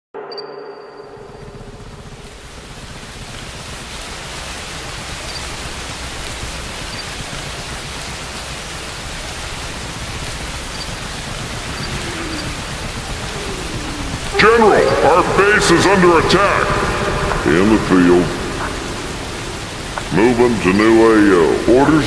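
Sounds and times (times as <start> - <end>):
heavy rain: 1.1 - 22.0.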